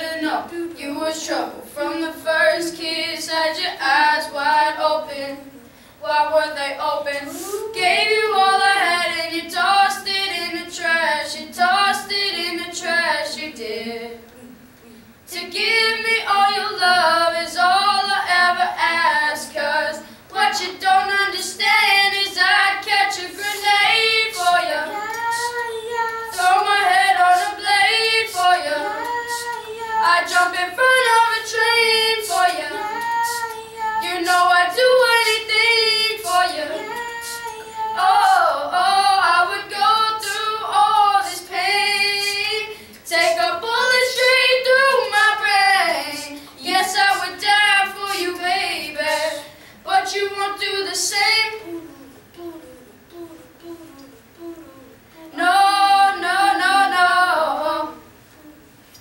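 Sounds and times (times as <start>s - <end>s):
boys singing without accompaniment: 0.0s - 59.0s.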